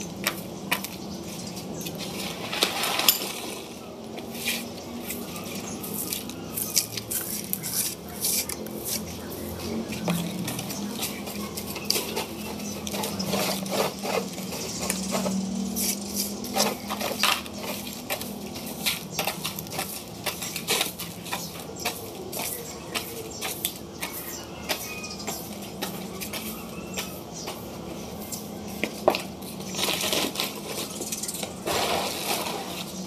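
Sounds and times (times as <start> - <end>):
broom sweeping concrete floor: 0.0 - 33.0.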